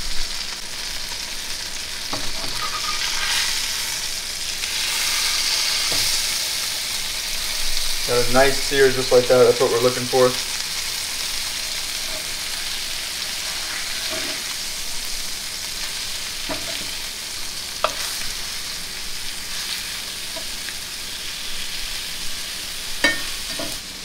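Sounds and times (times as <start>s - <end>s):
fish fillets sizzling in a frying pan: 0.0s - 24.0s.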